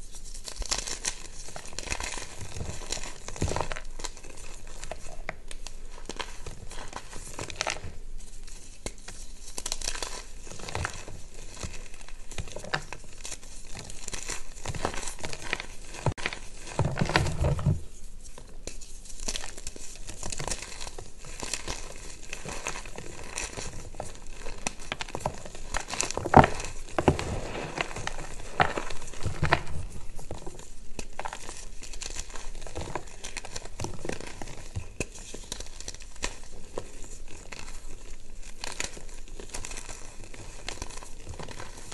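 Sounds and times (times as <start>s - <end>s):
hands crushing chalk: 0.0s - 41.9s.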